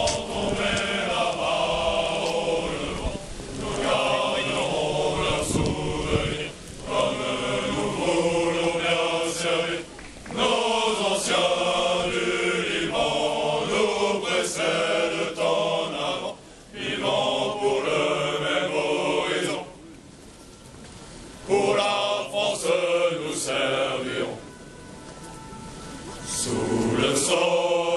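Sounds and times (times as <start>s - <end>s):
men singing marching song in unison: 0.0s - 19.8s, 21.4s - 24.4s, 26.3s - 27.9s.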